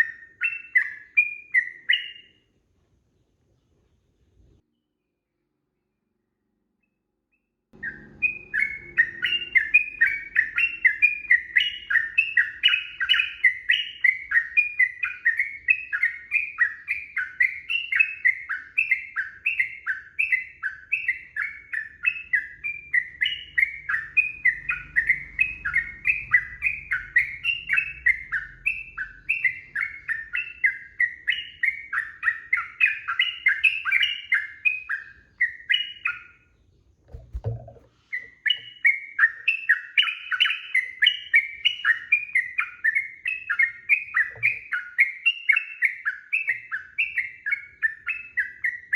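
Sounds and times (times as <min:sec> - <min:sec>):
bird singing falling notes: 0:07.8 - 0:48.9.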